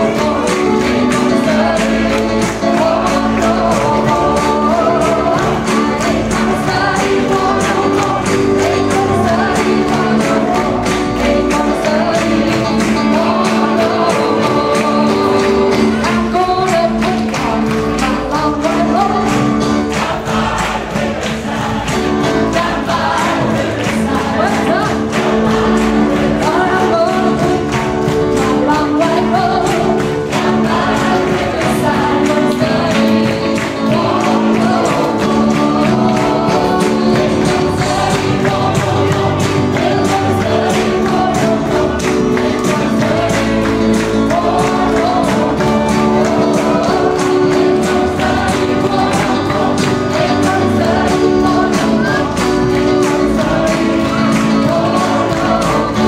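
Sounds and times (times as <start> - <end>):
gospel choir singing: 0.0 - 56.0.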